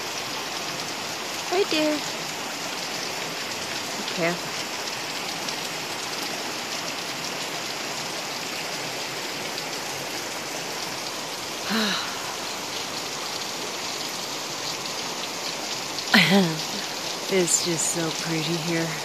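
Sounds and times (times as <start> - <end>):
water dripping into a pool: 0.0 - 19.0.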